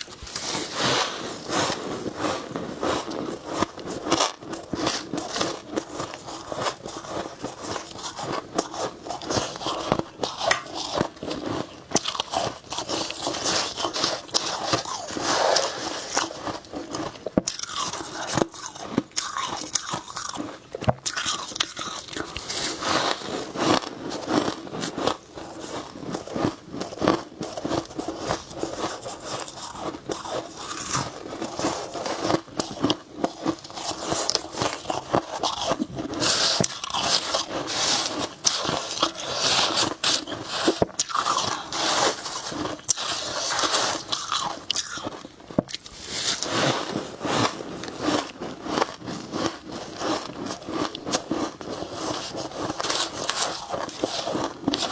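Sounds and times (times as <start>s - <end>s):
crunchy chewing of frost: 0.0s - 54.9s.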